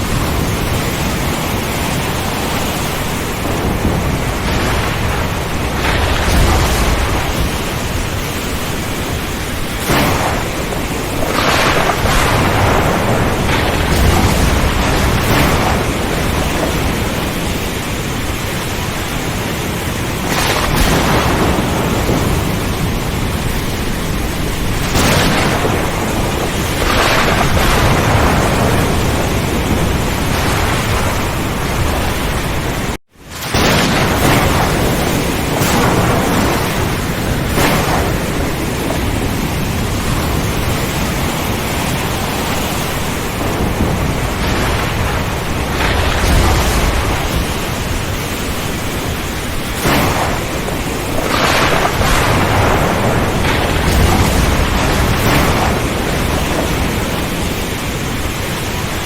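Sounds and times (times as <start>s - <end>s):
rain rushing: 0.0s - 59.0s
thunder cracks and rumbles: 0.0s - 59.0s.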